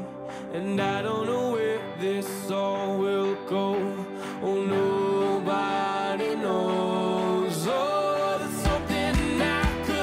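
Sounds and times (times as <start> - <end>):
background music long notes: 0.0 - 10.0.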